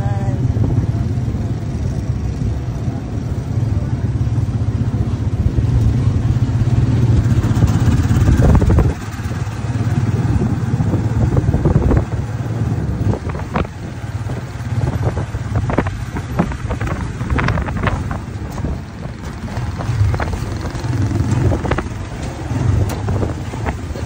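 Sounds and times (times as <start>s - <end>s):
motorcycle engine running: 0.0s - 24.0s
vehicle body rattling: 0.5s - 24.0s.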